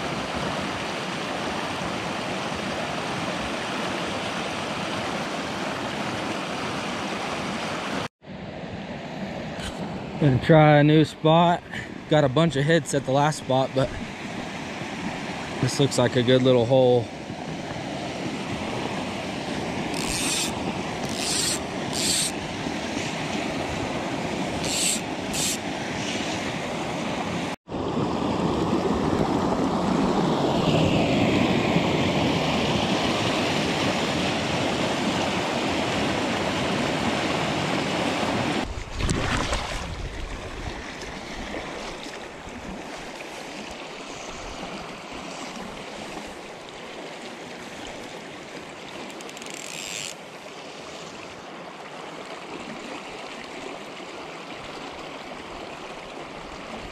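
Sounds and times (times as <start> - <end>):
creek water rushing over rocks: 0.0 - 8.1, 10.4 - 56.9.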